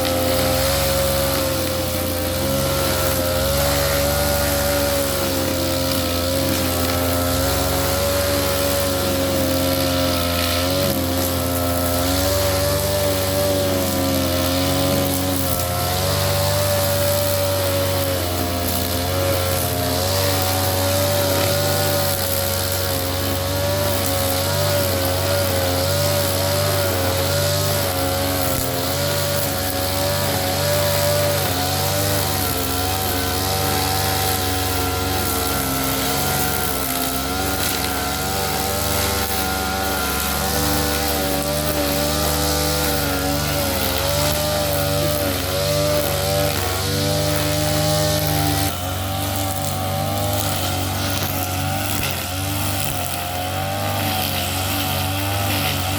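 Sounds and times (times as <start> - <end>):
brush cutter engine running: 0.0 - 55.9.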